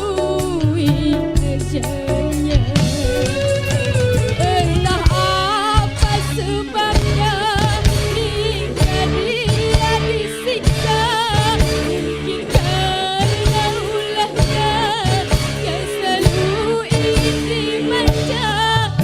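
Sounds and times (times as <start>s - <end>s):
woman singing with vibrato: 0.0s - 3.4s, 4.2s - 19.0s
live band with drum beat: 0.0s - 19.0s.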